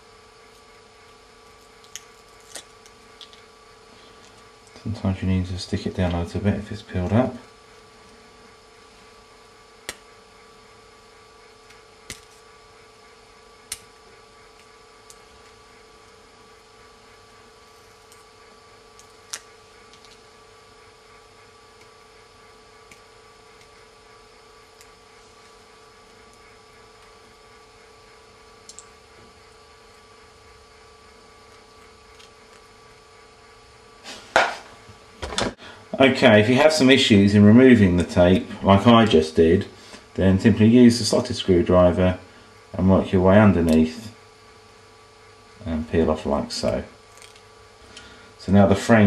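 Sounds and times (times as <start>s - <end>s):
faint hum: 0.0s - 49.0s.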